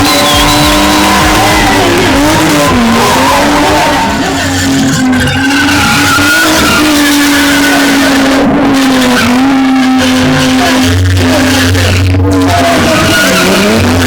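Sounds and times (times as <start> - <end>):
car engine at high revs: 0.0 - 14.0
tyres squealing on tarmac: 0.0 - 14.0.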